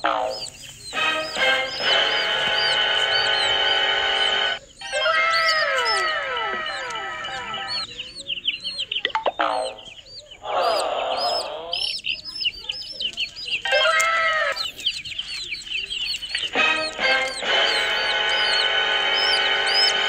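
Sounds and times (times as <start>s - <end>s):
baby chicks peeping: 0.0s - 20.0s
hen clucking: 0.0s - 20.0s.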